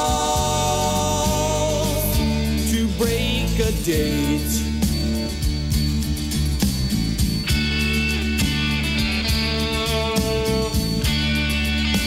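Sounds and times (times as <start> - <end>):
guitar: 0.0 - 12.0.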